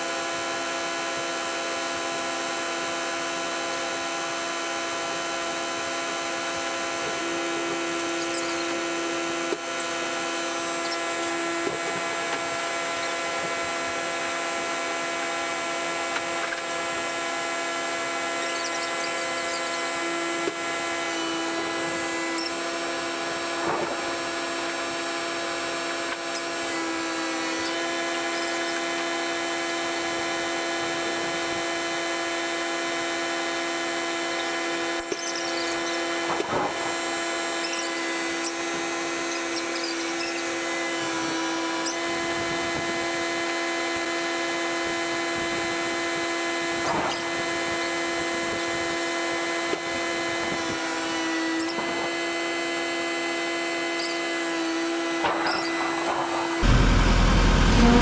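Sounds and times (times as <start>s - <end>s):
motor whine: 0.1s - 58.0s.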